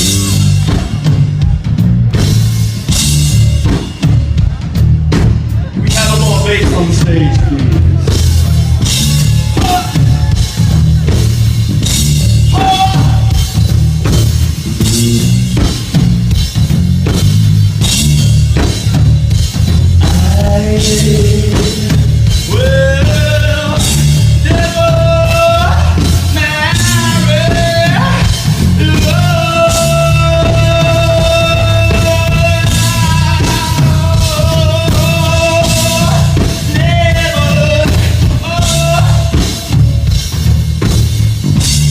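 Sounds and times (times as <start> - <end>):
live band with heavy drums: 0.0 - 41.9.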